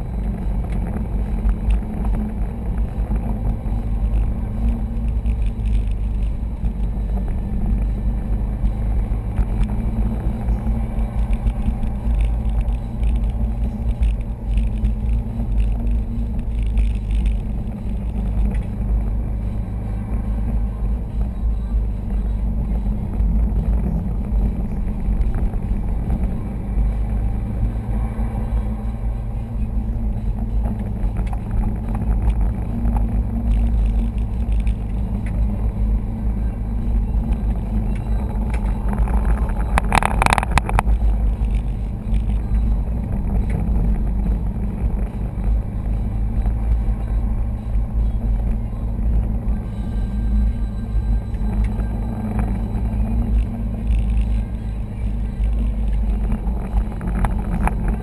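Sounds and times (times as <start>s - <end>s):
car cabin engine and road rumble: 0.0s - 58.0s.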